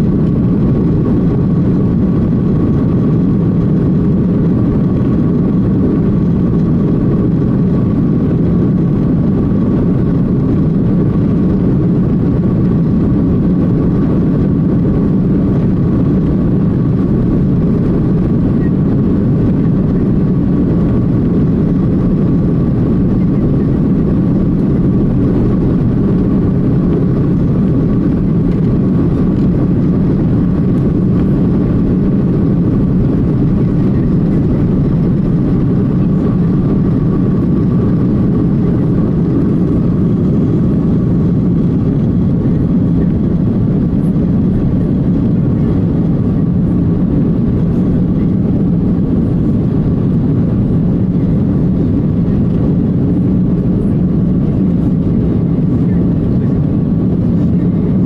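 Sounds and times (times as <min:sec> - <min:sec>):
airplane cabin rumble: 0:00.0 - 0:58.0
jet engine whine: 0:00.0 - 0:58.0.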